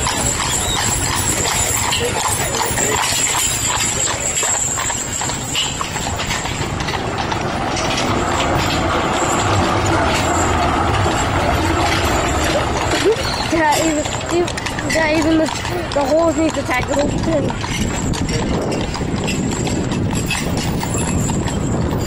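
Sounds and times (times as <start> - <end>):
horse hooves clip-clopping on road: 0.0 - 22.0
tram humming: 0.0 - 22.0.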